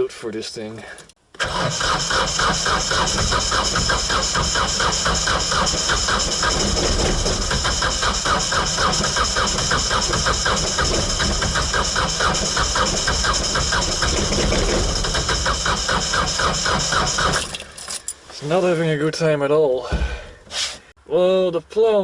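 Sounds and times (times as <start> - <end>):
diesel engine cranking: 1.0 - 18.7.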